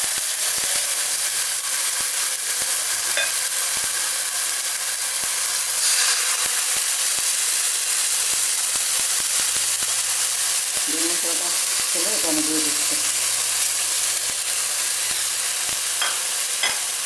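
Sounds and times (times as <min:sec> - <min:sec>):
chicken sizzling in frying pan: 0:00.0 - 0:17.0.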